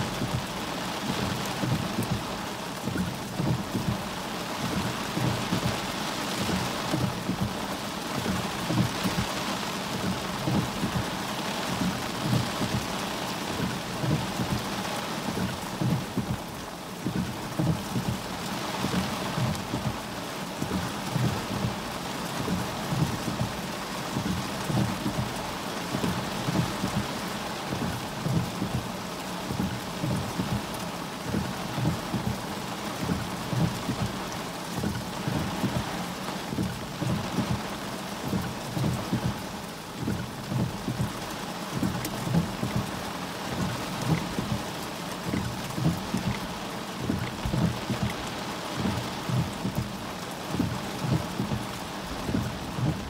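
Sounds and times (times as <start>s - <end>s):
heavy rain hiss: 0.0s - 53.0s
raindrops thudding on car: 0.0s - 53.0s.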